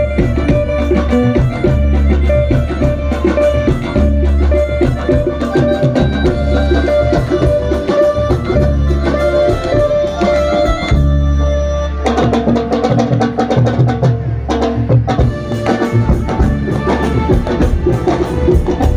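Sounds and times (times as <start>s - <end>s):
live rock band: 0.0s - 18.9s
tabla drumming: 0.0s - 18.9s.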